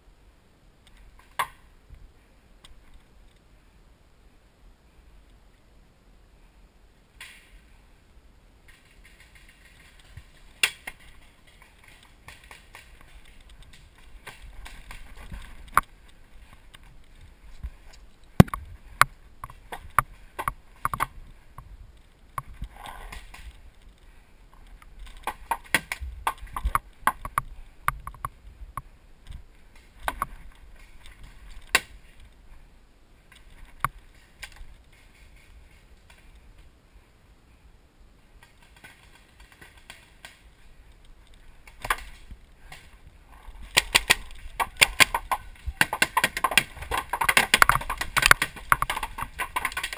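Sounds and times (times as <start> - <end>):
wind and gear rustling: 0.6 - 49.9.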